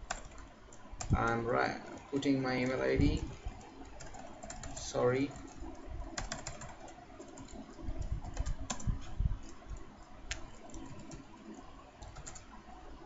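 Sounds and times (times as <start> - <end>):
typing on computer keyboard: 0.0 - 2.8, 3.5 - 12.6.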